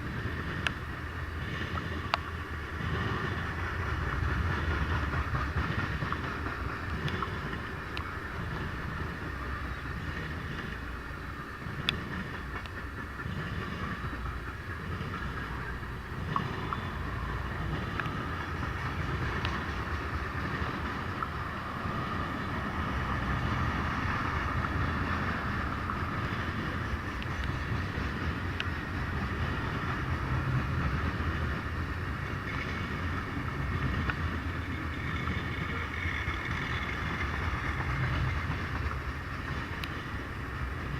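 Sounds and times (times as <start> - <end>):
freight train rumbling on rails: 0.0 - 40.9
sharp rail clicks: 0.0 - 40.9.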